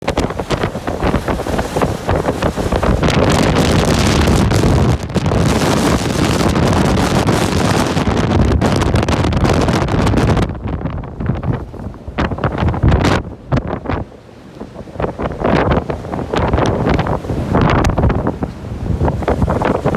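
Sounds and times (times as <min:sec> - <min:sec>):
storm wind buffeting microphone: 0:00.0 - 0:19.9.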